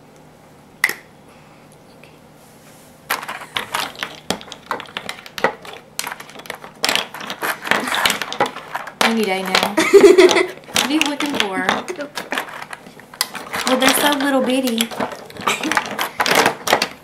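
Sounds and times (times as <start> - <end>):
makeup cases and brushes rattling: 3.1 - 17.0.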